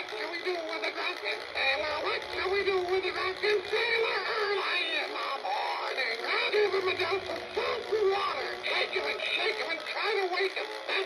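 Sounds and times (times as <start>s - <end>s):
toy parrot singing electronic voice: 0.0s - 11.0s
musical backing: 0.1s - 10.0s.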